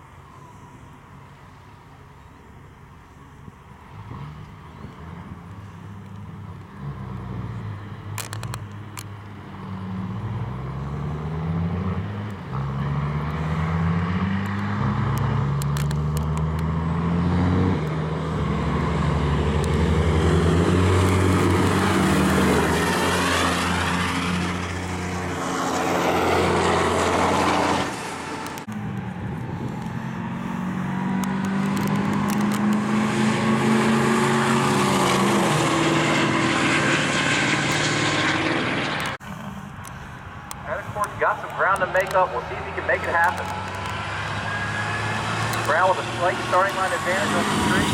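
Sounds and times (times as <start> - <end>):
truck engines at full throttle: 0.0 - 47.9.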